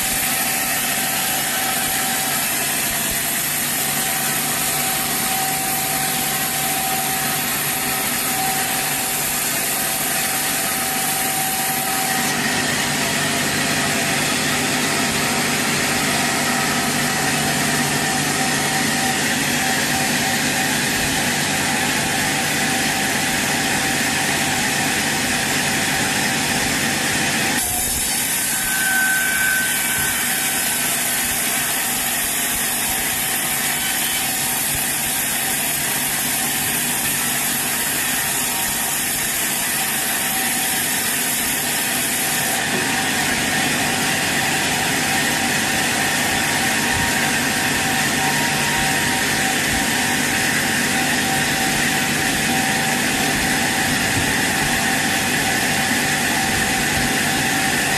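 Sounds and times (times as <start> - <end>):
brief saw squeal: 0.0 - 26.2, 27.0 - 57.9
sawmill saw cutting log: 0.0 - 57.9.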